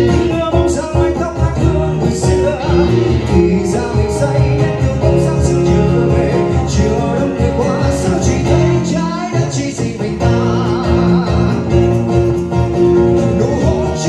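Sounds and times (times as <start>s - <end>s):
guitar music through a speaker: 0.0s - 14.0s.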